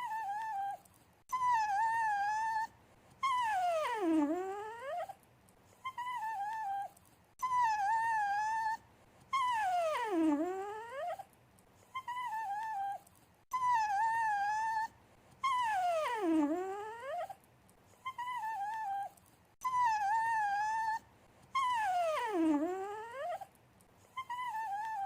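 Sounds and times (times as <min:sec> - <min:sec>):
dog whining: 0:00.0 - 0:05.2, 0:05.8 - 0:17.4, 0:18.0 - 0:25.0.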